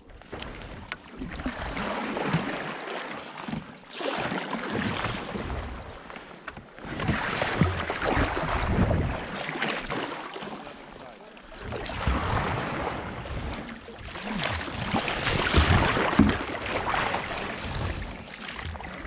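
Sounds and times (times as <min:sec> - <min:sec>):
paddle strokes splashing: 0:00.0 - 0:19.0
water rushing along hull: 0:00.0 - 0:19.0.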